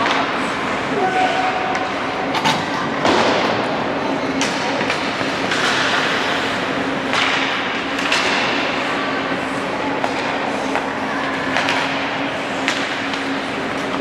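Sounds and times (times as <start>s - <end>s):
constant low hum: 0.0s - 14.0s
crowd noise: 0.0s - 14.0s.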